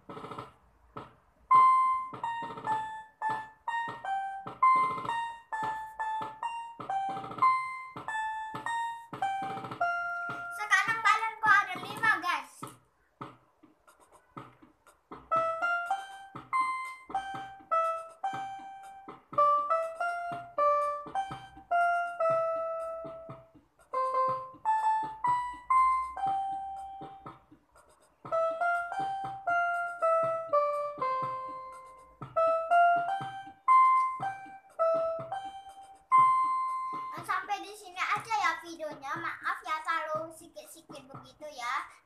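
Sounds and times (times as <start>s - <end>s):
electronic keyboard melody: 0.0s - 12.2s, 13.5s - 40.2s.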